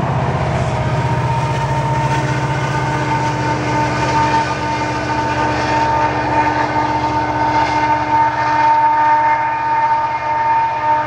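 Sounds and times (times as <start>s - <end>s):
diesel locomotive rumble: 0.0s - 11.0s
rail and wheel noise: 0.0s - 11.0s.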